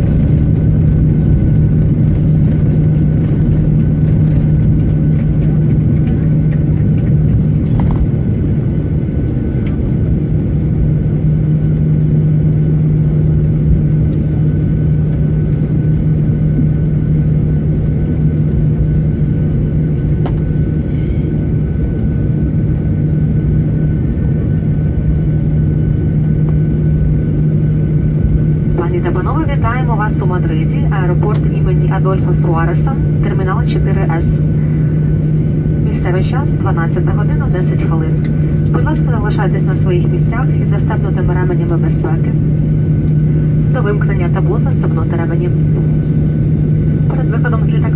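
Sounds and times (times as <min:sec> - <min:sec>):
jet engines running low: 0:00.0 - 0:47.9.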